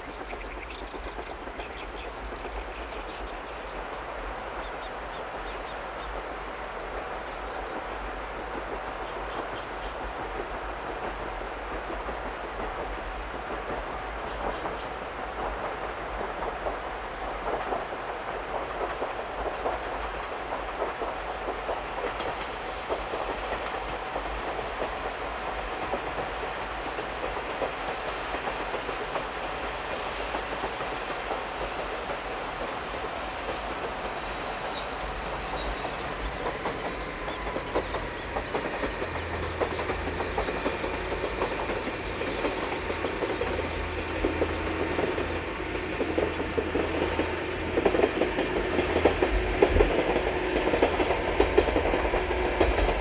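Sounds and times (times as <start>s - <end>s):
wheels clicking over rail joints: 6.9s - 53.0s.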